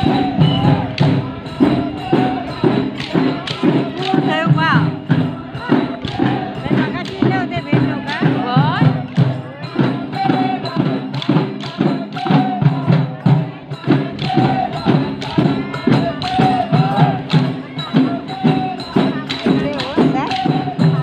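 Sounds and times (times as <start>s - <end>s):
drums beating fast rhythm: 0.0s - 21.0s.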